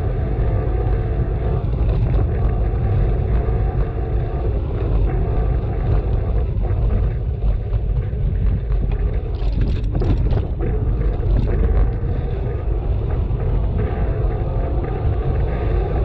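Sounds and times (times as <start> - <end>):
tyre and road noise: 0.0 - 16.0
wind rumbling on microphone: 0.0 - 16.0.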